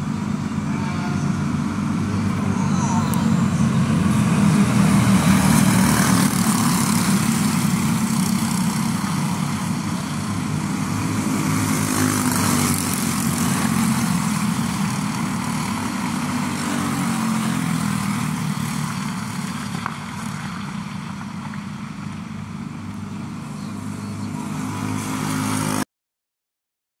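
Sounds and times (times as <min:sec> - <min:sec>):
go-kart engines buzzing: 0:00.0 - 0:25.8.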